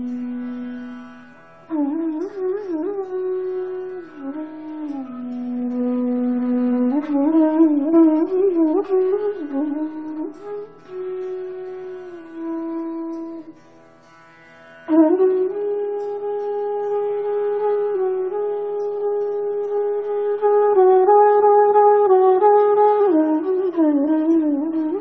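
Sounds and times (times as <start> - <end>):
flute melody: 0.0 - 13.8, 14.9 - 25.0.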